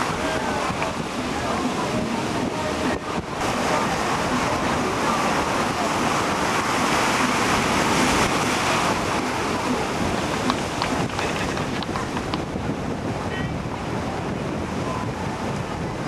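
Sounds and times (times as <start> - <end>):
ocean surf breaking: 0.0 - 16.0
wind buffeting the microphone: 0.0 - 16.0.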